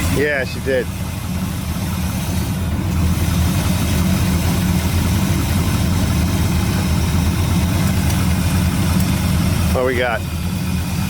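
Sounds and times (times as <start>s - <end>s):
car engine idling rumble: 0.0s - 11.0s.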